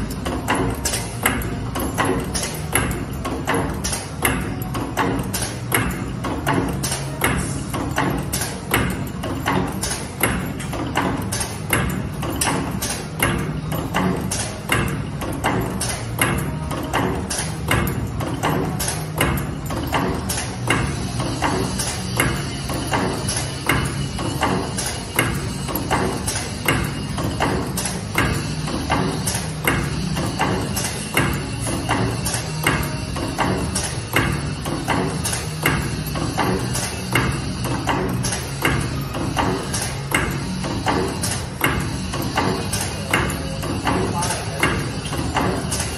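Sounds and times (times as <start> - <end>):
low machine hum: 0.0 - 45.9
machine knocking and clicking: 0.0 - 45.9.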